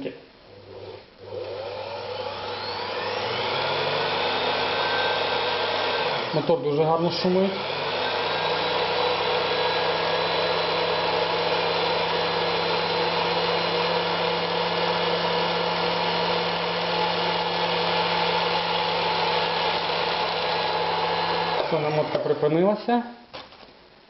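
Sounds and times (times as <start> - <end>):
sewing machine motor humming: 0.6 - 6.5, 7.2 - 22.4.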